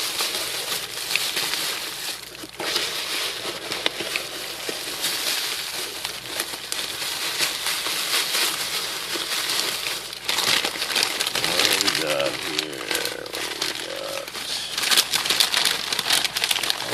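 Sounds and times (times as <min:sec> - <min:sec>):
packaging crinkling and rustling: 0:00.0 - 0:16.9.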